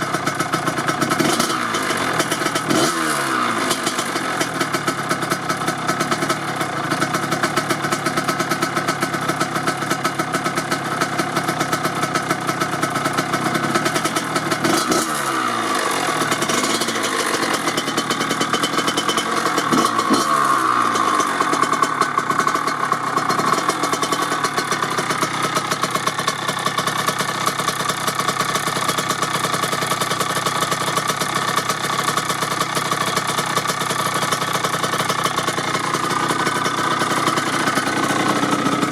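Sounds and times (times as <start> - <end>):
two-stroke engine idling and revving: 0.0 - 38.9.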